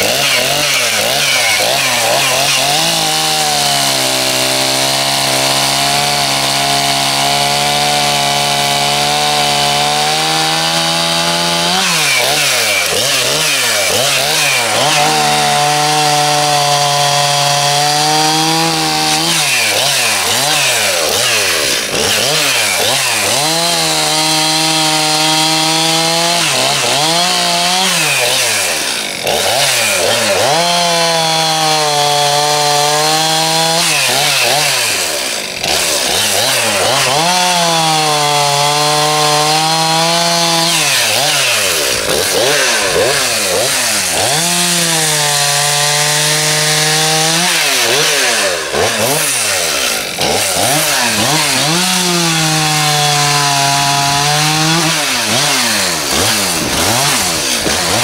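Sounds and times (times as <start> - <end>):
chainsaw cutting logs: 0.0 - 58.0
chainsaw throttle blips: 0.0 - 58.0.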